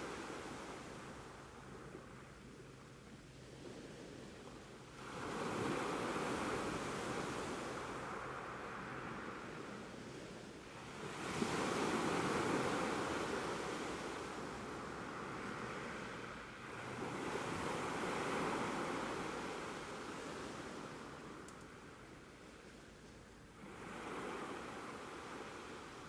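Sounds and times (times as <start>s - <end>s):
ocean waves washing ashore: 0.0s - 22.8s, 23.4s - 26.0s.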